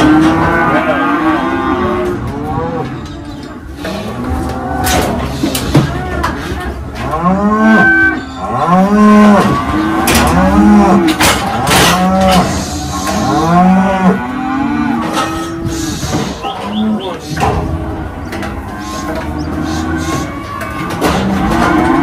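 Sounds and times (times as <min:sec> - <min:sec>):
cattle mooing: 0:00.0 - 0:22.0
metal gates clanking: 0:00.0 - 0:22.0.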